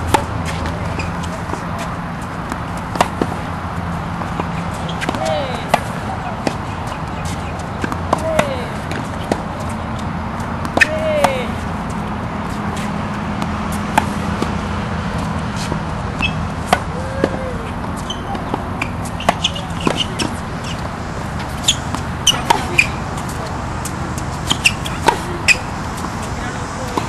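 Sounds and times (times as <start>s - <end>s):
tennis balls hit and bouncing: 0.0s - 27.0s.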